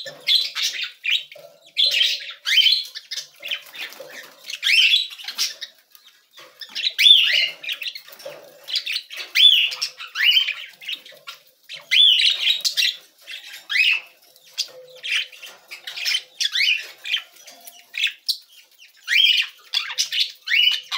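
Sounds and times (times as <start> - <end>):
budgerigars chirping and squawking: 0.0 - 20.9.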